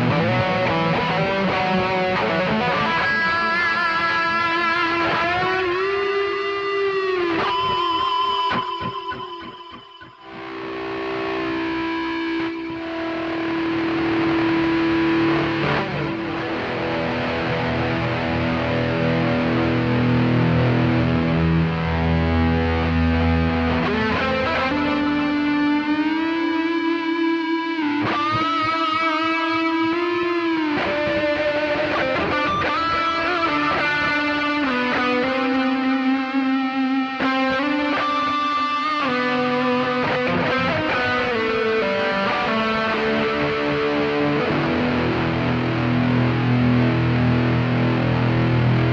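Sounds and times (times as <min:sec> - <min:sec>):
distorted electric guitar with delay: 0:00.0 - 0:48.9.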